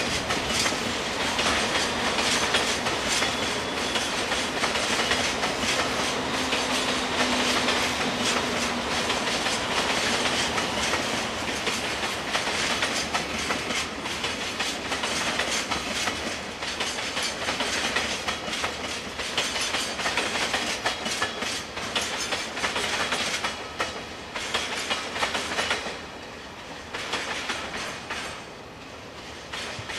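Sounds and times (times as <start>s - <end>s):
freight train rolling past: 0.0s - 29.9s.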